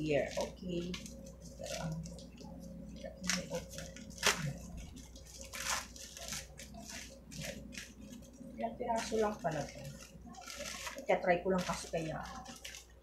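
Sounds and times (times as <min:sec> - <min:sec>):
packaging wrapper crinkling: 0:00.0 - 0:13.0.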